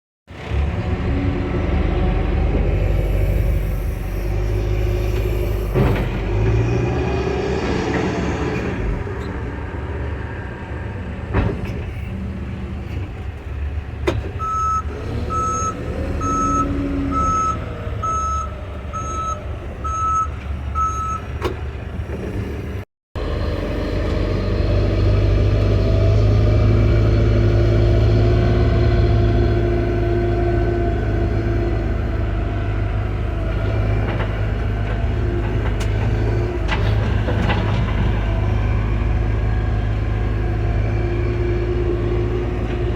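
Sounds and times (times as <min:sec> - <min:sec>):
diesel engine running: 0:00.3 - 0:42.9.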